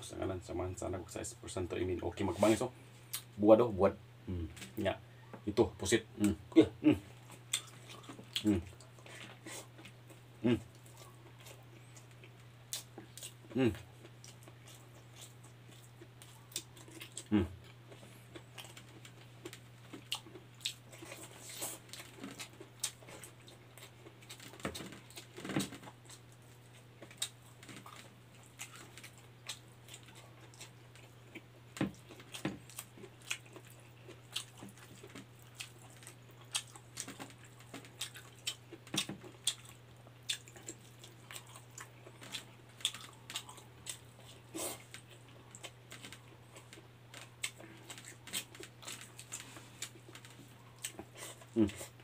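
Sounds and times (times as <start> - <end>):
steady low hum: 0.0 - 52.0
close-up chewing and mouth clicks: 7.1 - 52.0.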